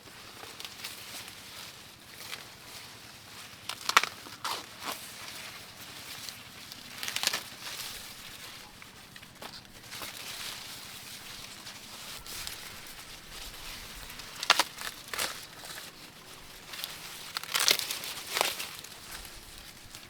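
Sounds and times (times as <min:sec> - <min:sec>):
dry leaves crackling and tearing: 0:00.0 - 0:20.0
dry plant material rustling: 0:00.0 - 0:20.0.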